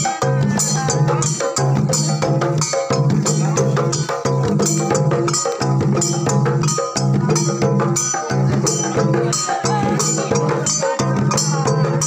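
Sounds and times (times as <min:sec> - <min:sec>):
wooden hand drums beating: 0:00.0 - 0:12.0.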